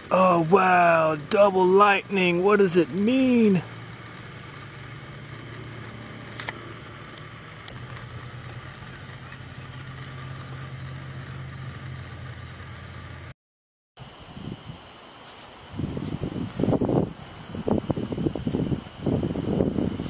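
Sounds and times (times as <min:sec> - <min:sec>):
motor humming: 0:00.0 - 0:13.3, 0:14.0 - 0:20.0.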